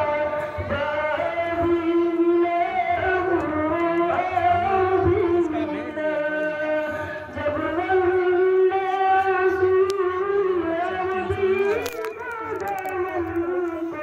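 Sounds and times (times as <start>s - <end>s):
boy singing: 0.0s - 14.0s.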